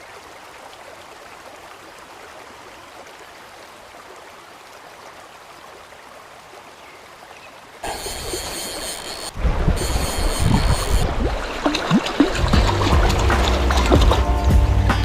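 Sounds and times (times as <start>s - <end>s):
river rushing: 0.0s - 14.9s.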